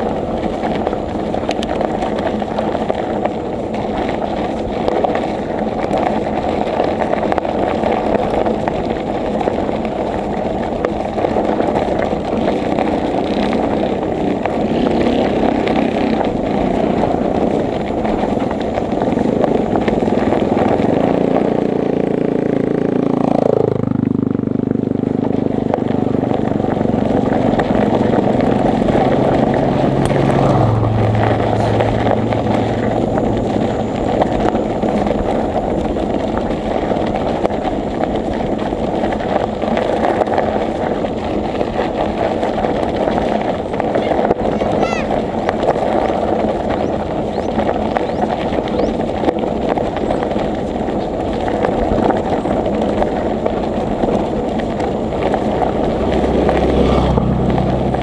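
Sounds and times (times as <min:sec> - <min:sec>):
wind rushing over microphone: 0:00.0 - 0:58.0
motor engine passing: 0:11.2 - 0:58.0.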